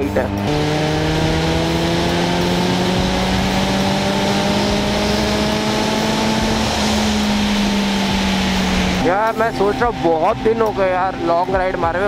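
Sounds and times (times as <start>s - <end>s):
motorcycle accelerating: 0.0s - 12.0s.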